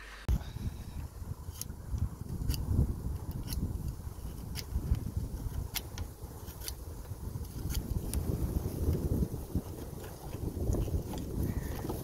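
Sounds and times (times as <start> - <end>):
wind buffeting microphone: 0.3 - 12.0.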